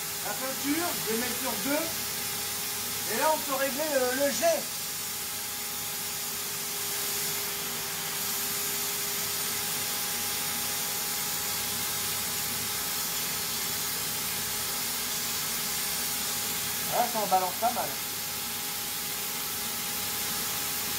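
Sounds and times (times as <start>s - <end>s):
paint sprayer hissing and whining: 0.0s - 20.9s.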